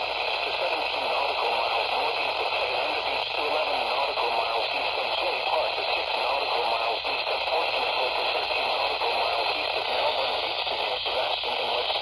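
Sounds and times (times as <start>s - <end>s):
faint garbled broadcast audio: 0.0s - 12.0s
radio static hiss: 0.0s - 12.0s.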